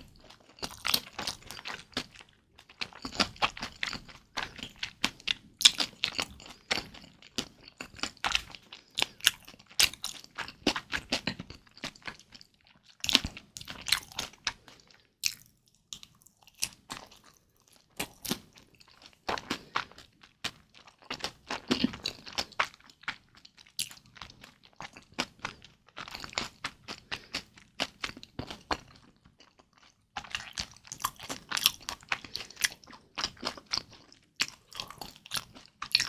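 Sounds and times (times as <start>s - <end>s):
wet crunchy chewing: 0.0s - 36.0s.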